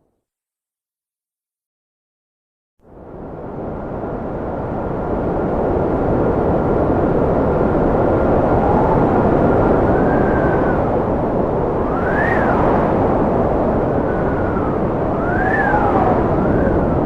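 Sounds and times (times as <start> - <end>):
strong wind whistling: 2.9 - 17.0.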